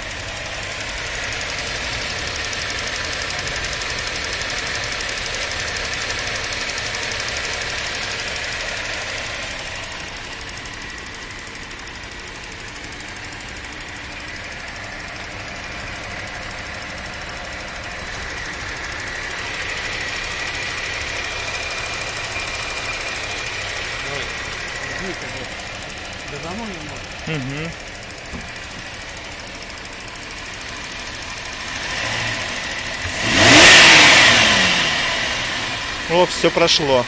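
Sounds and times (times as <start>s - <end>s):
rapid ticking knock: 0.0s - 34.5s
car engine running: 0.0s - 37.0s.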